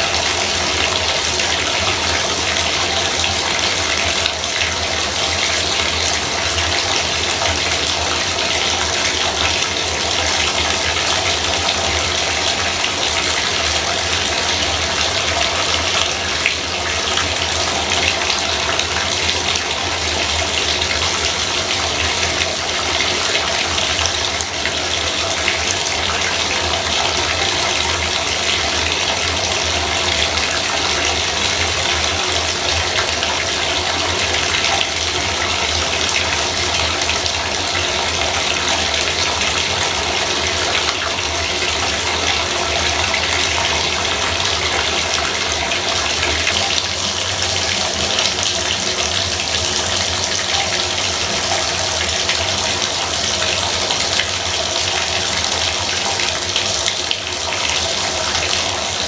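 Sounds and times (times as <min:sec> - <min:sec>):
bathtub faucet running: 0:00.0 - 0:59.0.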